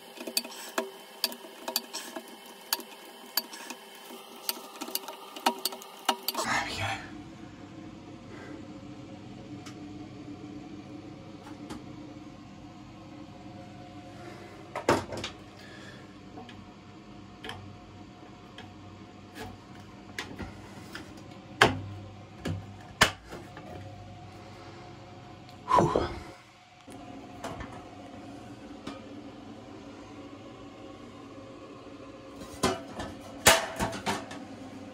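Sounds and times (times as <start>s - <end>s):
low steady hum: 0.1s - 34.9s.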